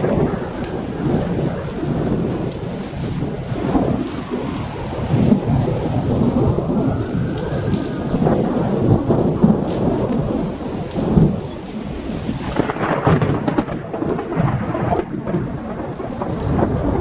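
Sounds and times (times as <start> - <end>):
rain hissing: 0.0 - 17.0
thunder rumbling: 0.0 - 17.0.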